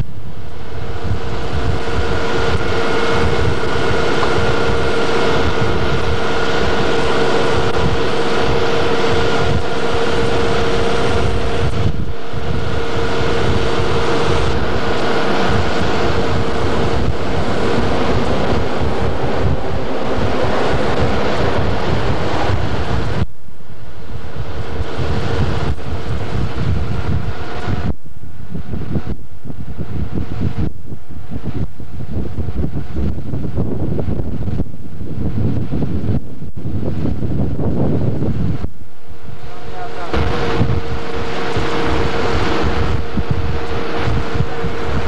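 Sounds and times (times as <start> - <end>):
boat engine hum: 0.0 - 45.0
wind noise on microphone: 0.0 - 45.0.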